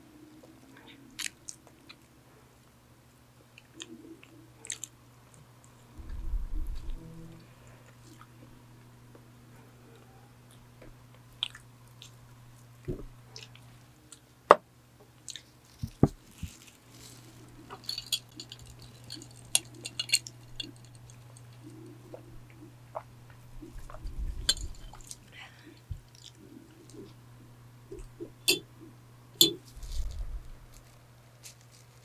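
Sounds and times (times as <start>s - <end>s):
electric fan humming: 5.0s - 32.0s.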